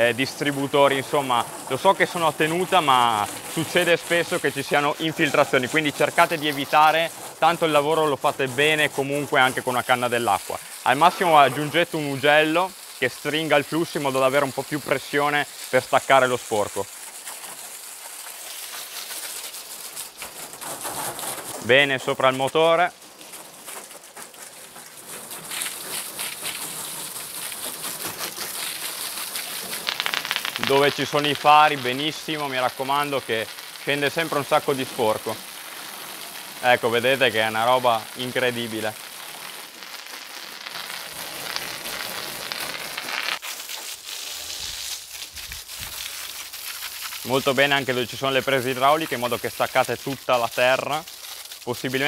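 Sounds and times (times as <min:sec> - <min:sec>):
hose water spraying on metal: 0:00.0 - 0:52.0.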